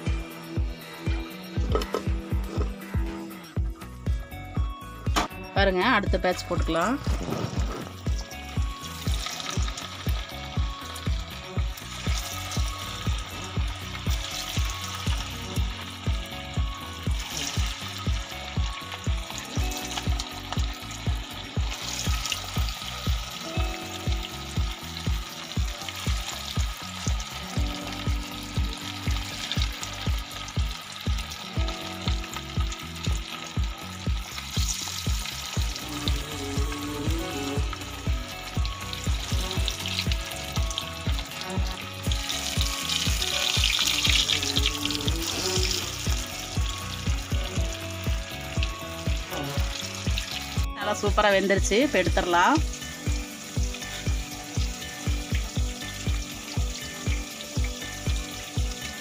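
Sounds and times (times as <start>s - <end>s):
background music with beat: 0.0s - 59.0s
oil sizzling and bubbling: 0.0s - 59.0s.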